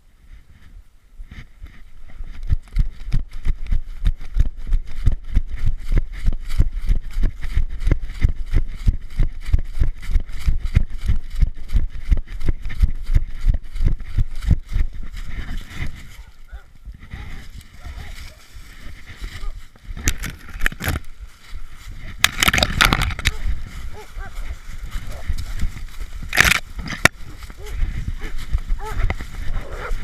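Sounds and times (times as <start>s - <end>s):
running footsteps thudding: 1.3s - 30.0s.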